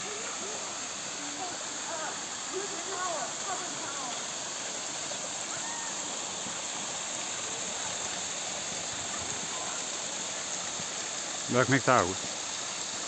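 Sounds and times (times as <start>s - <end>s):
water cascading over rocks: 0.0s - 13.0s.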